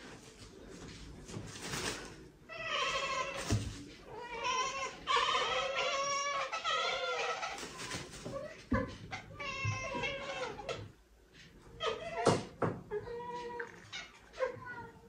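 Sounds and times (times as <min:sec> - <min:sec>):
cats chattering and chirping: 0:02.0 - 0:15.0.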